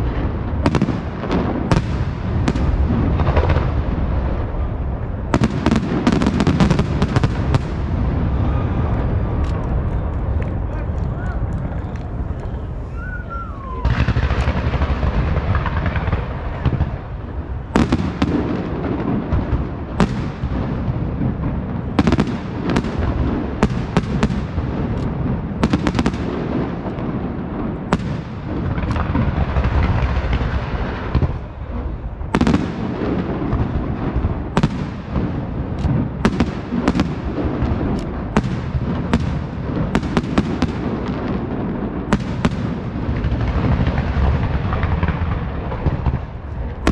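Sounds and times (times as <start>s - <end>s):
fireworks launches rumbling: 0.0s - 46.9s.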